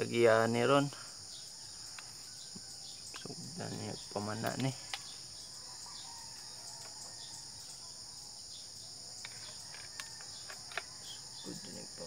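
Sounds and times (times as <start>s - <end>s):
insects buzzing chorus: 0.0s - 12.0s.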